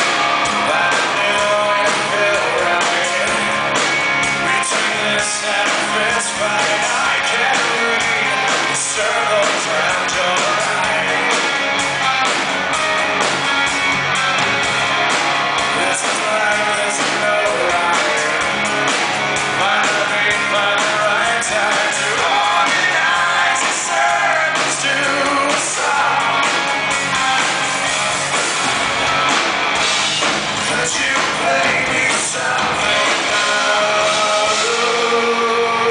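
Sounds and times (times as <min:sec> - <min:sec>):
man singing: 0:00.0 - 0:12.4, 0:15.7 - 0:18.6, 0:19.5 - 0:27.8, 0:30.6 - 0:35.9
rock band playing loudly: 0:00.0 - 0:35.9.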